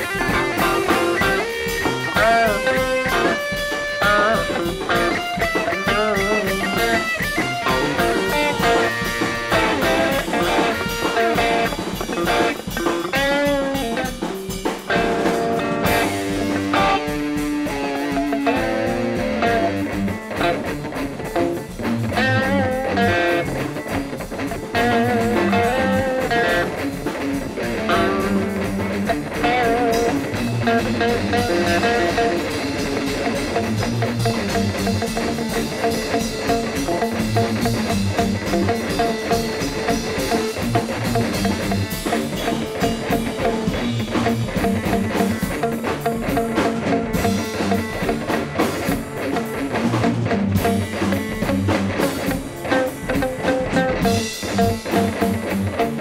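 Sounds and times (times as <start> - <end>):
lead guitar with bent notes: 0.0 - 56.0
rhythm guitar: 0.0 - 56.0
steady drum beat: 0.0 - 56.0.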